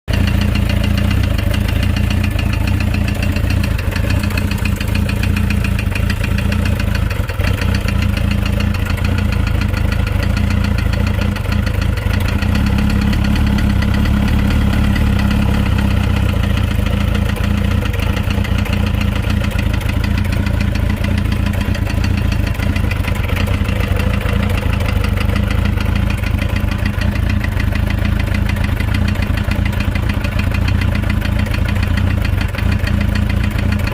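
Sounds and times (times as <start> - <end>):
engine knocking: 0.0 - 33.9
motorcycle engine idling: 0.1 - 33.9.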